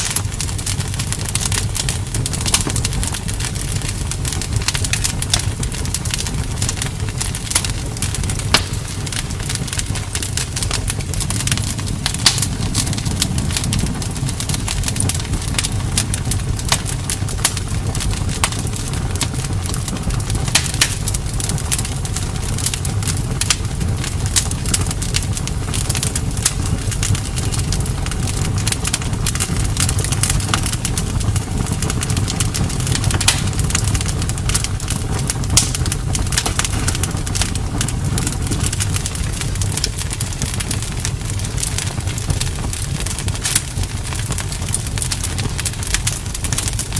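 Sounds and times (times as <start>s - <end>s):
campfire crackling and popping: 0.0s - 46.9s
low rumble of flames: 0.0s - 46.9s.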